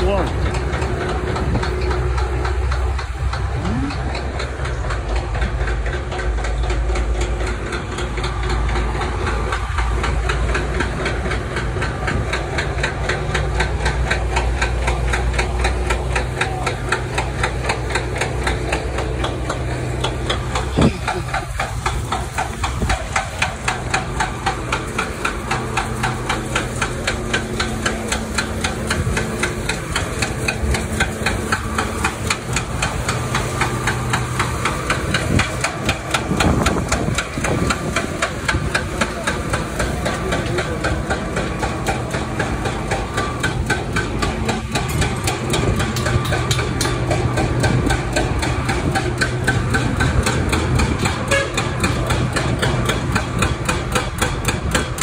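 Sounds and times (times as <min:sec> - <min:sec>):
rapid even knocking: 0:00.0 - 0:55.0
truck diesel engine running: 0:00.0 - 0:55.0.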